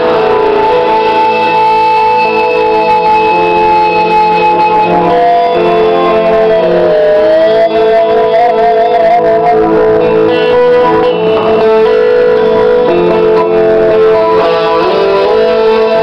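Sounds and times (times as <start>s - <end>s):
electric guitar solo: 0.0s - 16.0s
looped guitar chords: 0.0s - 16.0s.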